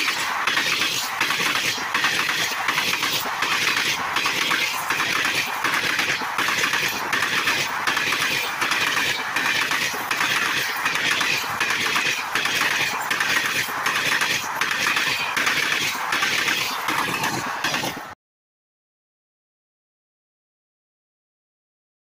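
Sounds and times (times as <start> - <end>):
train wheels clattering on rails: 0.0 - 18.2.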